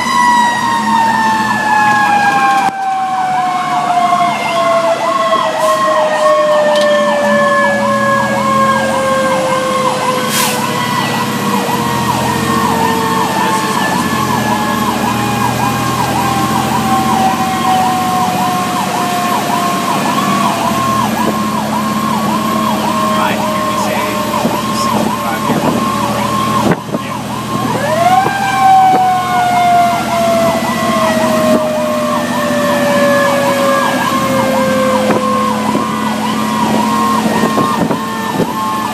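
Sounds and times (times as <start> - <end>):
electronic siren yelping: 0.0 - 38.9
mechanical siren wailing: 0.0 - 38.9
truck engine droning: 0.0 - 38.9.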